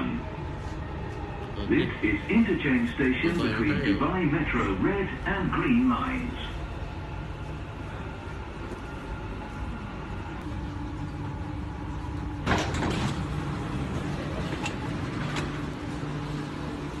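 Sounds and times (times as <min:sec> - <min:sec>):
train car hum: 0:00.0 - 0:17.0.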